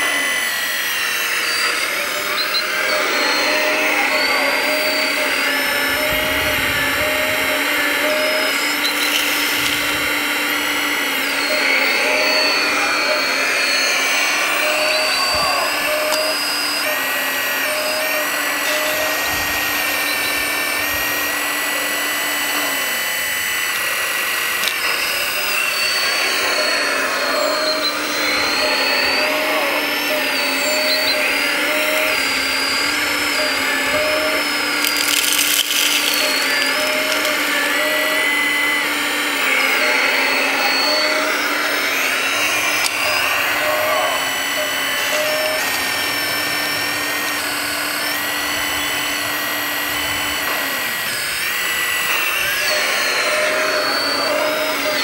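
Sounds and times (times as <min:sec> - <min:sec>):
electric motors and gears whining: 0:00.0 - 0:55.0.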